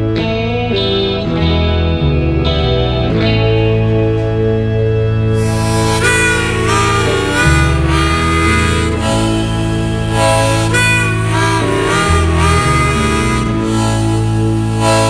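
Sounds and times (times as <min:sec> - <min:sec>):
bass notes: 0:00.0 - 0:15.0
pitch-bending lead guitar line: 0:00.0 - 0:15.0.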